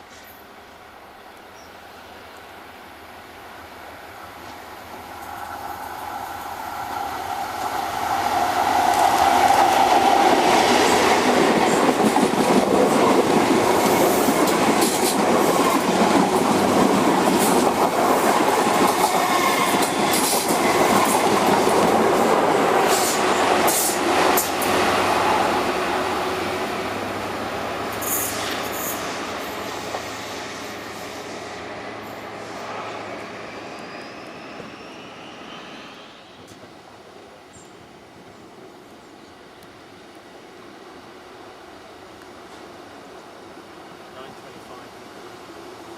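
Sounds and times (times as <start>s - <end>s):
train running past: 0.0s - 45.9s.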